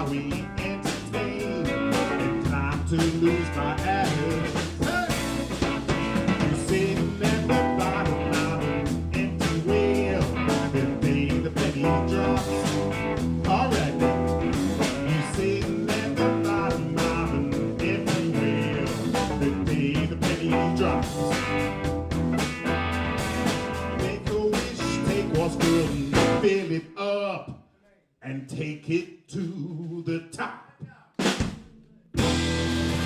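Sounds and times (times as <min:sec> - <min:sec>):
drum kit beat: 0:00.0 - 0:26.5, 0:31.2 - 0:33.0
electric guitar: 0:00.0 - 0:26.5, 0:32.2 - 0:33.0
bass guitar: 0:00.0 - 0:26.6, 0:32.2 - 0:33.0
keyboards: 0:00.0 - 0:26.6, 0:32.2 - 0:33.0.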